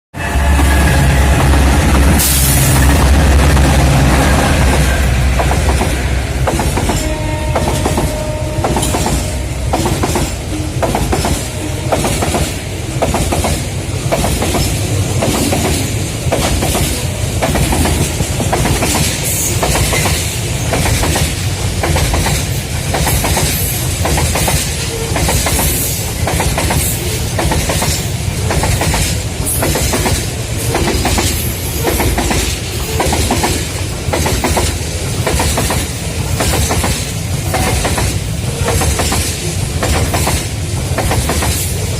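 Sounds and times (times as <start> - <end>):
train rumble: 0.2 - 41.9
train wheels clicking over rail joints: 4.6 - 41.9.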